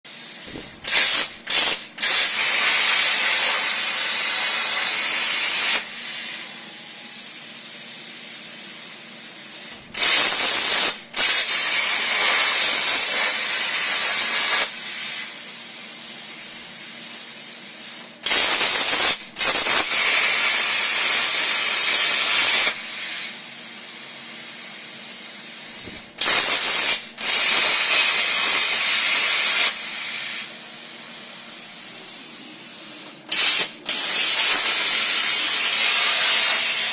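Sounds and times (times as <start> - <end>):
plasma cutter hissing: 0.1 - 36.9.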